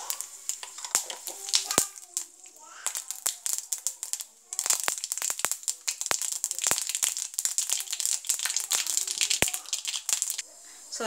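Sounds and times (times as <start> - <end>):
seeds popping in hot oil: 0.0 - 10.5
oil sizzling: 0.0 - 11.0.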